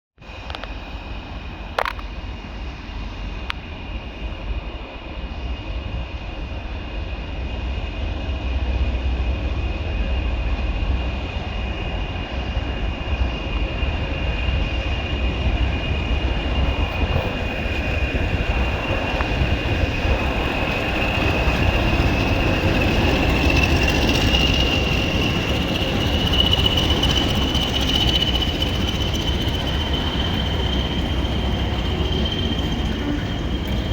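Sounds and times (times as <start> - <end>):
diesel locomotive engine rumble: 0.2 - 33.9
high-pitched whine: 0.3 - 33.9.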